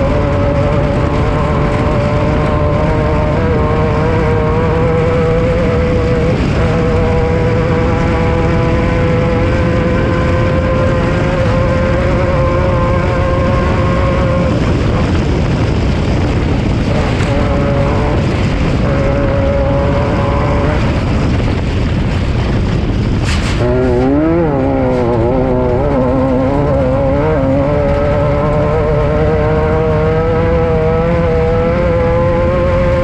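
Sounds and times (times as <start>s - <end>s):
race vehicle engine running hard: 0.0s - 33.0s.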